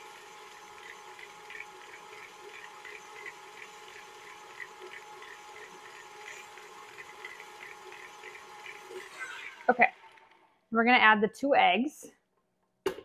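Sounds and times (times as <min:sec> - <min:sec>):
stand mixer motor hum: 0:00.0 - 0:10.4.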